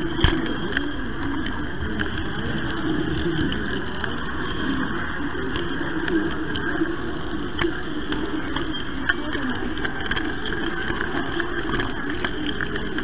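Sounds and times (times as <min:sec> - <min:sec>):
faint clicks: 0:00.0 - 0:13.0.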